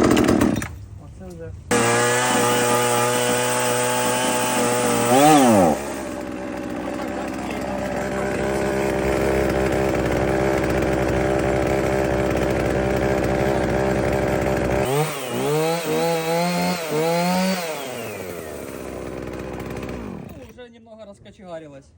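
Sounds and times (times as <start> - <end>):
chainsaw engine idling and revving: 0.0 - 0.8, 1.7 - 20.5.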